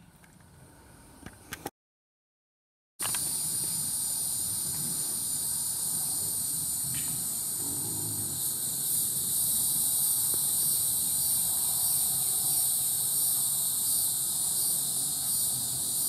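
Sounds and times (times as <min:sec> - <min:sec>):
insects chorus: 0:03.0 - 0:16.0.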